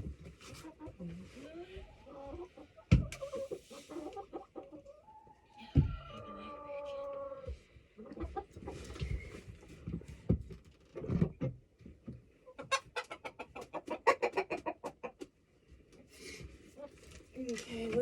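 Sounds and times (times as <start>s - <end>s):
chickens clucking: 0.4s - 10.0s, 11.0s - 17.0s.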